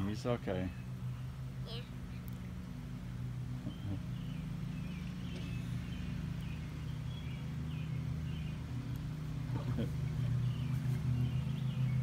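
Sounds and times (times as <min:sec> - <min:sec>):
birds chirping: 0:00.0 - 0:12.0
low motor hum: 0:00.0 - 0:12.0.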